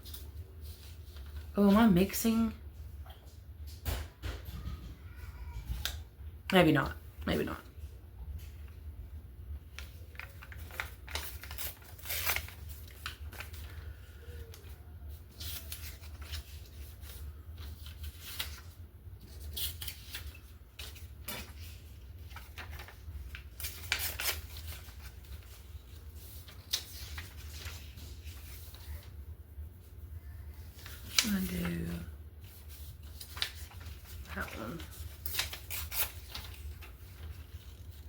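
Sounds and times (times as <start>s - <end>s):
paper rustling: 0.0s - 2.4s, 7.8s - 38.0s.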